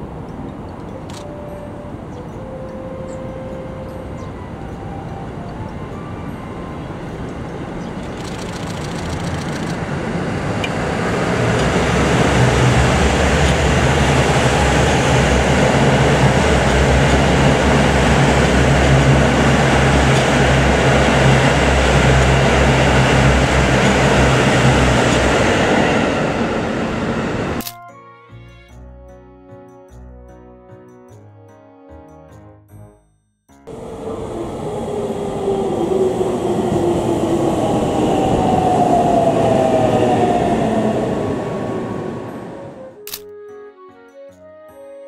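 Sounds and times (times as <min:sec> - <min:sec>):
diesel train passing: 0:00.0 - 0:27.6, 0:33.7 - 0:43.0.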